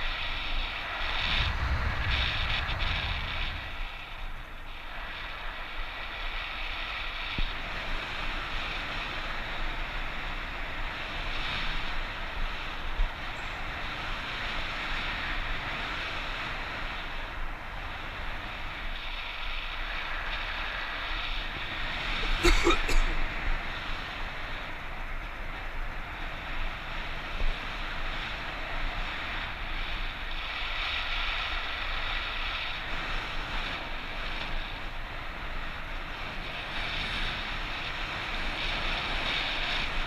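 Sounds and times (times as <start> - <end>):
wind rushing on microphone: 0.0 - 40.0.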